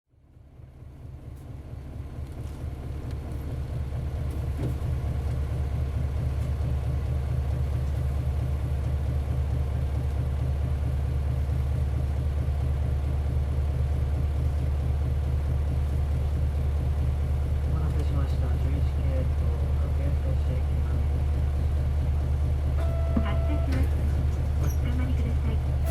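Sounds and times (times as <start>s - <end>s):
diesel engine low rumble: 0.1s - 25.9s.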